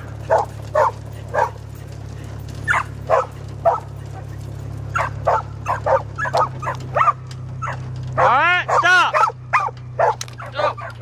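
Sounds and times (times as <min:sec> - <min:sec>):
truck engine drone: 0:00.0 - 0:11.0
dog barking: 0:00.2 - 0:01.6, 0:02.7 - 0:04.2, 0:04.9 - 0:11.0.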